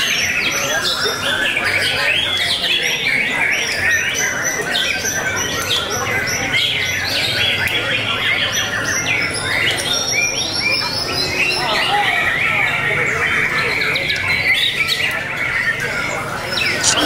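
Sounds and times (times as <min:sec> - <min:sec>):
birds singing: 0:00.0 - 0:17.0.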